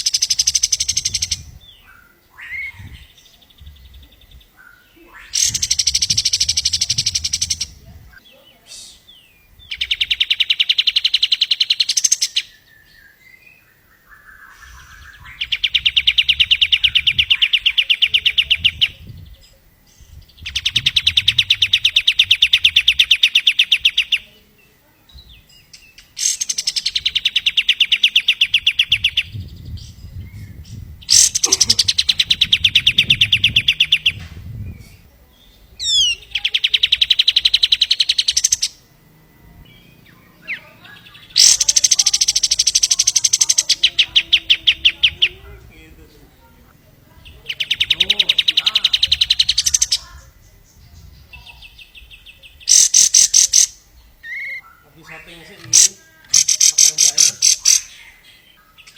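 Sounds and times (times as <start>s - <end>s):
songbird rapid trill: 0.0s - 58.9s.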